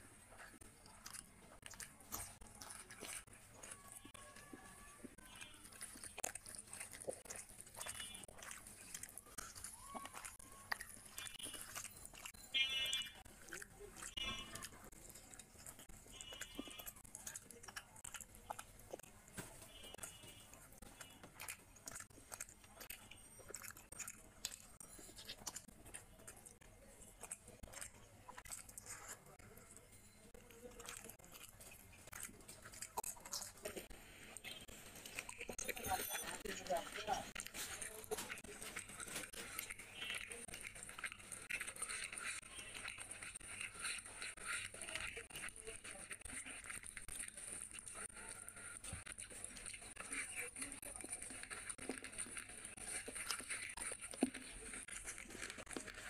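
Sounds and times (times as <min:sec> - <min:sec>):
person chewing: 0:00.0 - 0:56.0
fingers tearing meat: 0:00.4 - 0:35.6, 0:37.3 - 0:56.0.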